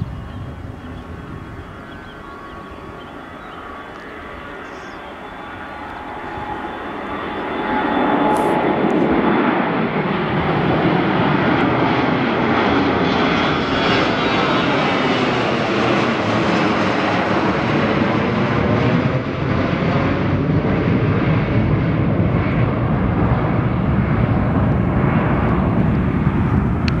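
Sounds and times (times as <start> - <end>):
jet passing low overhead: 0.0 - 27.0.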